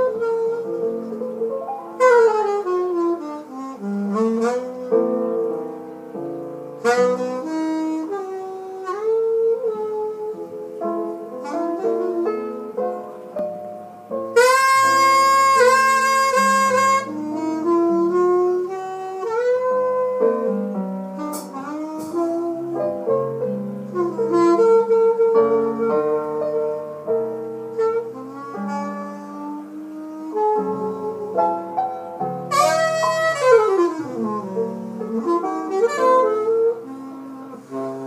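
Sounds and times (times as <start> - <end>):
jazz band over loudspeakers: 0.0 - 38.0
saxophone playing: 0.0 - 38.0.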